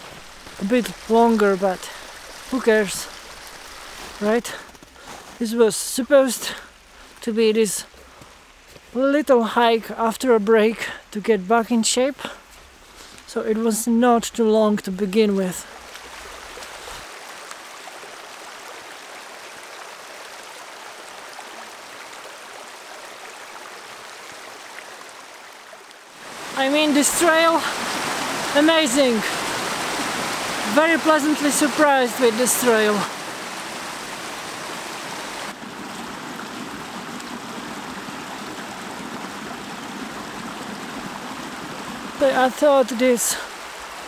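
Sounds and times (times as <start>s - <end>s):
creek flowing over stones: 0.0s - 44.0s.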